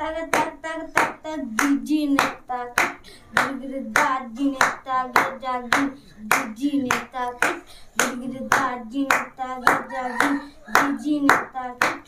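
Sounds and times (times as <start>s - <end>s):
sharp hand claps: 0.3s - 12.0s.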